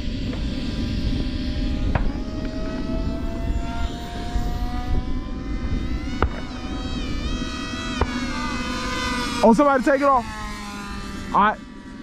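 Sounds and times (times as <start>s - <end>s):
model jet whine: 0.0s - 12.0s.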